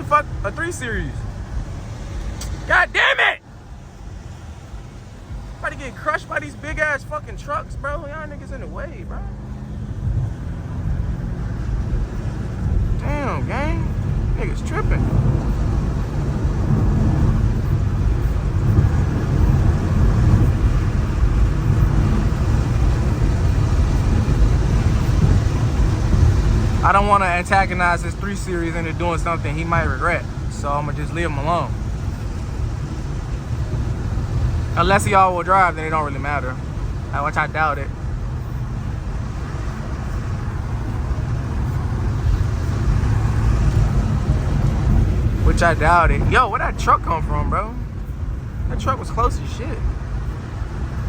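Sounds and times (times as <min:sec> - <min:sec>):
engine and tyres rumbling: 0:00.0 - 0:51.0.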